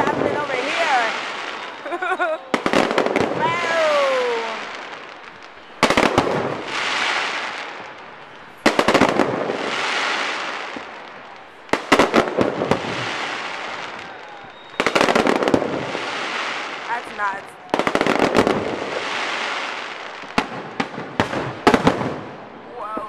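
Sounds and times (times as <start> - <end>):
crackling hiss: 0.0 - 23.0
fireworks bangs: 0.0 - 23.0.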